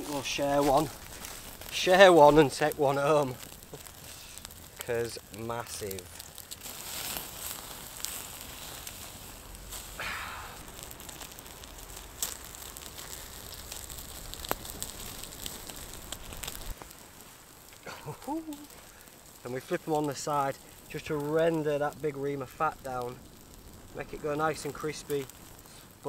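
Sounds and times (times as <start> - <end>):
fire crackling: 0.0 - 26.0
steaks sizzling on a grill: 0.0 - 26.0.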